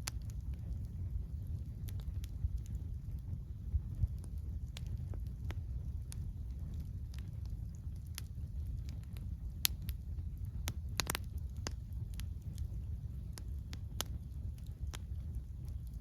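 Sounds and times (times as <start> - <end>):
campfire crackling: 0.0 - 16.0
low rumble: 0.0 - 16.0.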